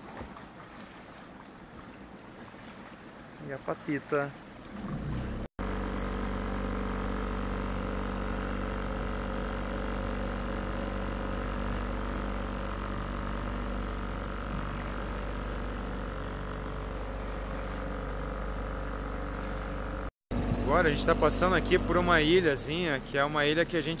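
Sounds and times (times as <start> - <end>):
water and wind hiss: 0.0 - 24.0
motorboat engine drone: 0.2 - 24.0.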